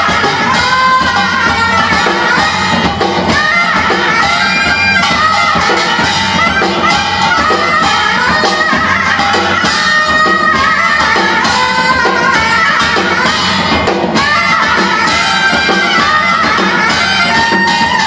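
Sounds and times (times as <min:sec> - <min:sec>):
repeating instrumental accompaniment: 0:00.0 - 0:18.0
wind instrument melody: 0:00.0 - 0:18.0.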